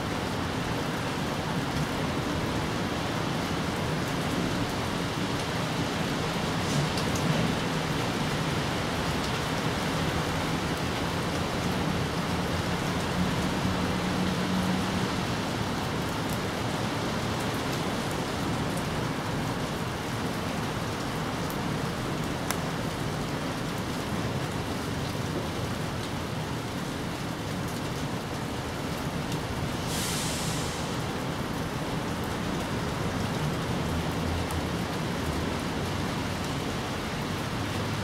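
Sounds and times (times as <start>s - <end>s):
rain falling on leaves: 0.0s - 38.0s.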